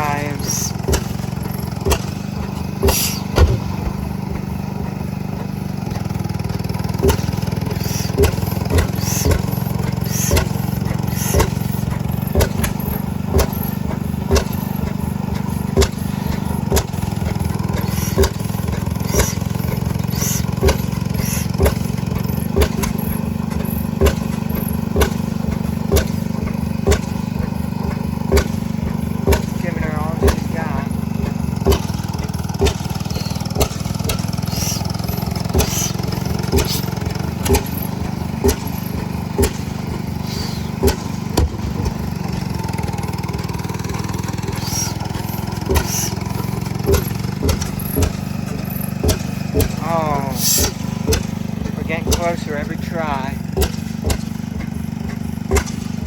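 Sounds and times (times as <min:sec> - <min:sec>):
old gas engine running: 0:00.0 - 0:56.0
sharp exhaust pops: 0:00.0 - 0:56.0.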